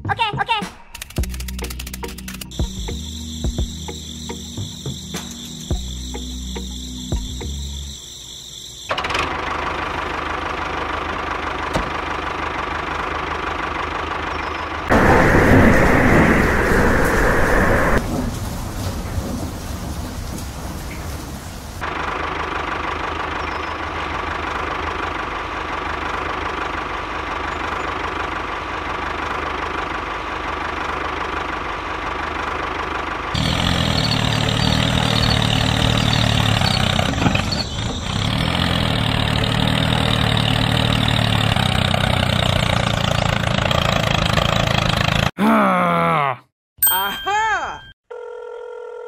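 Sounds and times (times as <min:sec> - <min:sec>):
engine idling: 0:01.2 - 0:45.3.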